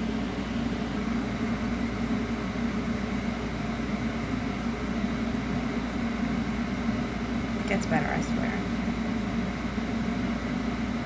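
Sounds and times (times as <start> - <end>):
mechanical hum with air noise: 0.0 - 11.0.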